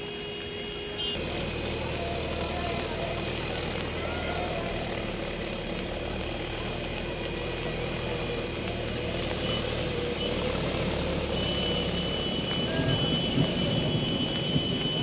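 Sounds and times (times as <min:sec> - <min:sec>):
vehicle engines humming: 0:00.0 - 0:15.0
heavy rain hissing: 0:00.1 - 0:15.0.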